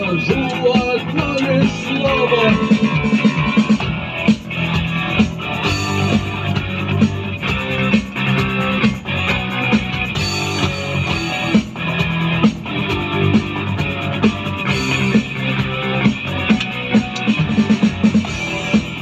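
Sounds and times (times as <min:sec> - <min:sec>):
rock band instrumental: 0:00.0 - 0:19.0.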